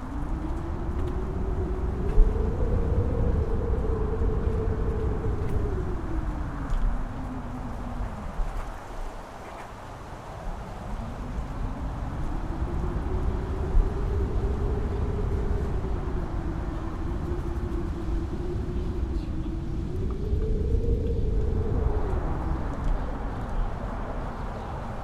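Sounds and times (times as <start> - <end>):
wind buffeting microphone: 0.0 - 25.0
wind howling: 0.0 - 25.0.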